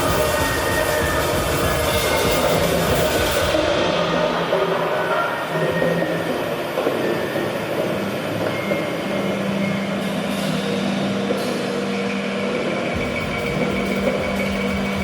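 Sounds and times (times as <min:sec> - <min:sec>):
noisy drone with low hum: 0:00.0 - 0:15.0.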